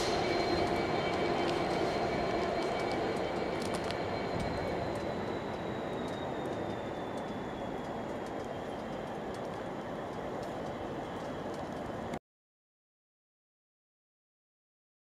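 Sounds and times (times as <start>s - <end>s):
train wheel squeal: 0.0s - 12.1s
freight train rail rumble: 0.0s - 12.2s.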